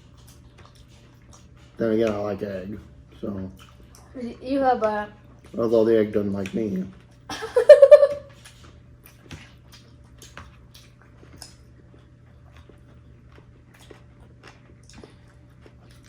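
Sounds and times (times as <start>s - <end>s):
faint clicks and chewing: 0.0s - 7.3s, 8.3s - 16.0s.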